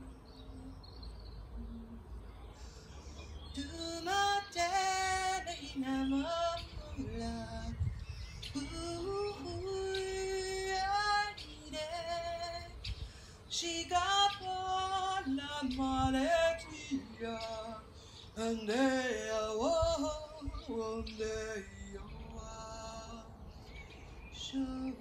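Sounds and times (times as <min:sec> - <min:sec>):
woman singing slow melody: 0:00.0 - 0:02.4, 0:03.3 - 0:07.9, 0:08.5 - 0:12.9, 0:13.5 - 0:23.4, 0:24.4 - 0:25.0.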